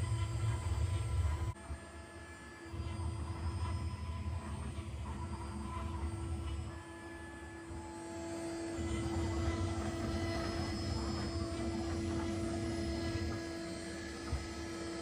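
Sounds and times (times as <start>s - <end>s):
cnc router spindle whine: 0.0s - 15.0s.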